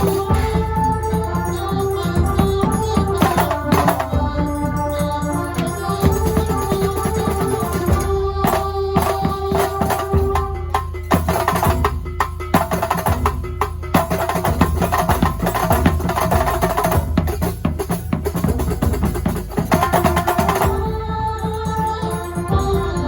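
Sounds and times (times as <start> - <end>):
frame drums and hand drums: 0.0 - 23.0.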